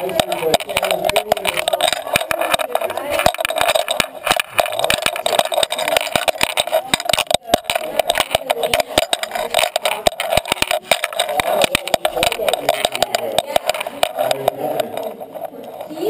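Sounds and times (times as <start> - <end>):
steady scraping: 0.0 - 16.0.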